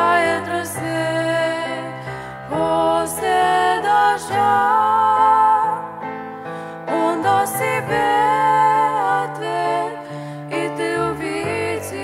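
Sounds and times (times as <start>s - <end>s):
girls singing duet: 0.0s - 6.2s, 6.8s - 12.0s
piano accompaniment: 0.0s - 12.0s.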